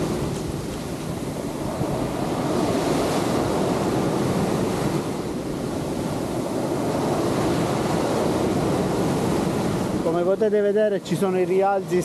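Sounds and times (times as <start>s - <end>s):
surf breaking on shore: 0.0s - 12.0s
wind buffeting microphone: 0.0s - 12.0s.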